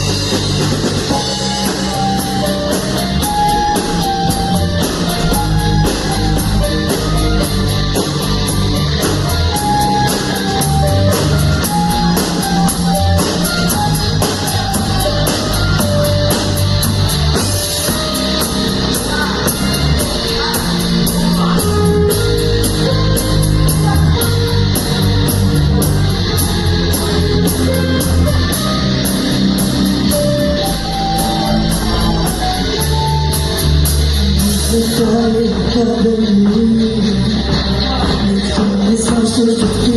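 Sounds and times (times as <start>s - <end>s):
drums with steady cymbal beat: 0.0s - 39.9s
rock guitar: 0.0s - 39.9s.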